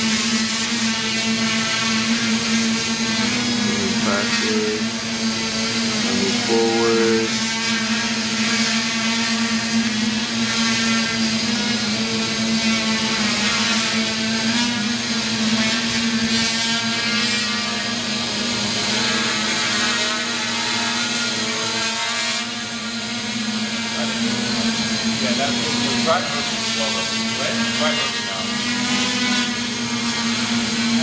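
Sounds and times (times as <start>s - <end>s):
quadcopter propellers buzzing: 0.0s - 31.0s.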